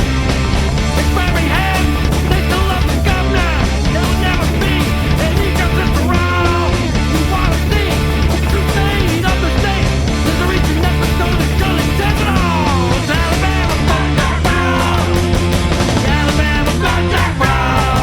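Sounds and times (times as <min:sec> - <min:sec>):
punk rock band playing: 0:00.0 - 0:18.0.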